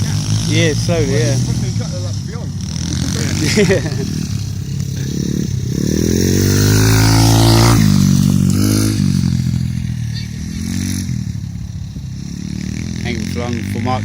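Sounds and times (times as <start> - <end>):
pit bike engines revving: 0.0 - 14.0.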